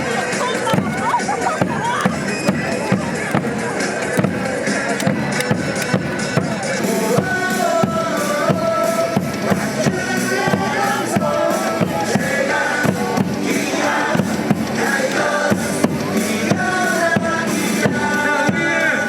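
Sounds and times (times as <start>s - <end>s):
cheer music over loudspeakers: 0.0s - 19.0s.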